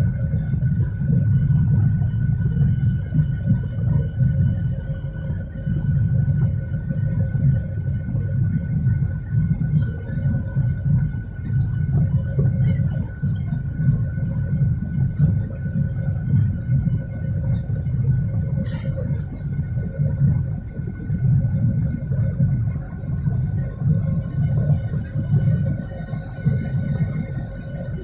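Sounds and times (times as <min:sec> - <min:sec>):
jet engines rumbling: 0:00.0 - 0:28.0
thin steady whine: 0:00.0 - 0:28.0.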